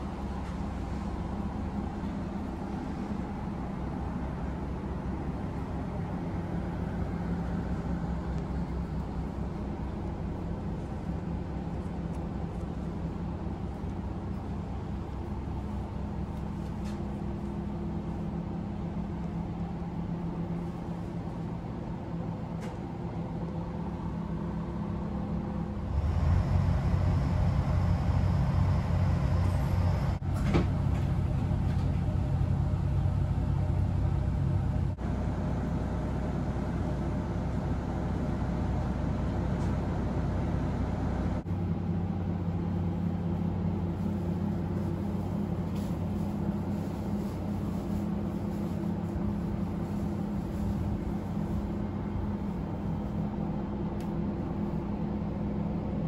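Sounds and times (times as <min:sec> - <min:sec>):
diesel engine idling hum: 0:00.0 - 0:56.0.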